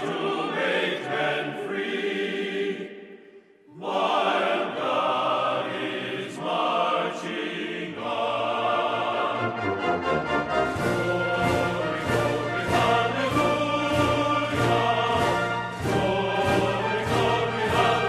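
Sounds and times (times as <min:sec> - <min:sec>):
music with choir voices: 0:00.0 - 0:18.0.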